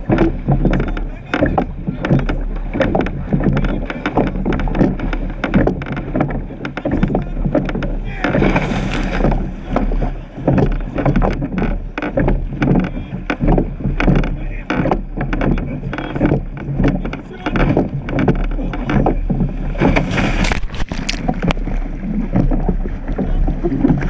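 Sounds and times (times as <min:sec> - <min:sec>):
oars knocking in their gates: 0:00.0 - 0:24.0
water rushing along hull: 0:00.0 - 0:24.0.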